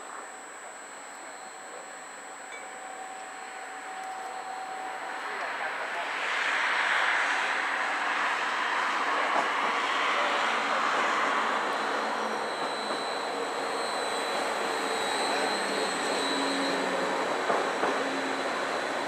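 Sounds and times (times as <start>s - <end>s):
thin high whine: 0.0s - 9.2s, 10.0s - 19.0s
electric train passing: 0.0s - 19.0s.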